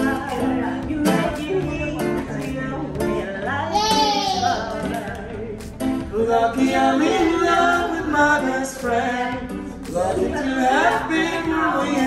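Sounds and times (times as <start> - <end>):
nylon-string acoustic guitar: 0.0 - 12.0
person singing: 0.0 - 12.0.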